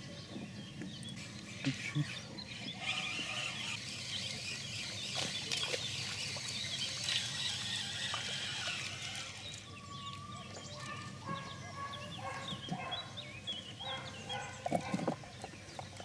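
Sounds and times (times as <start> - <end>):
wildlife chirping in reeds: 1.0 - 15.7.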